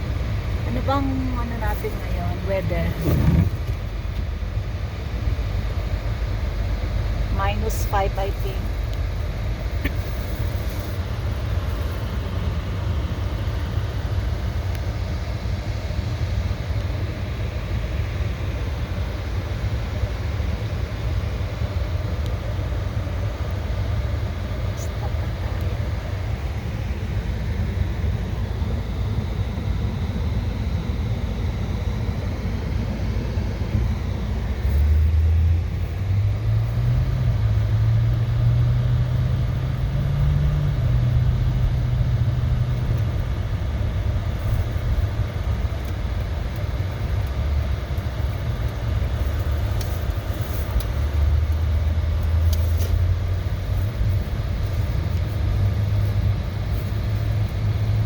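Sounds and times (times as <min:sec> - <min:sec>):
car engine: 0:00.0 - 0:58.0
road rumble: 0:00.0 - 0:58.0.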